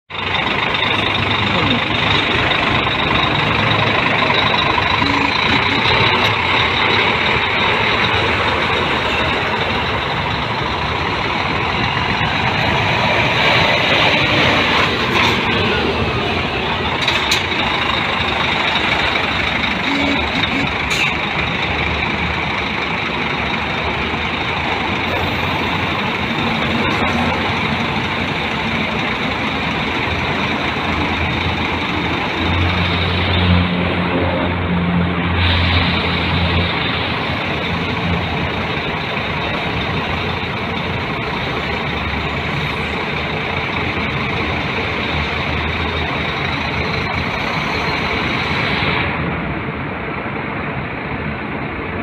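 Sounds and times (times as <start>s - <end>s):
diesel truck engine idling: 0.1s - 52.0s.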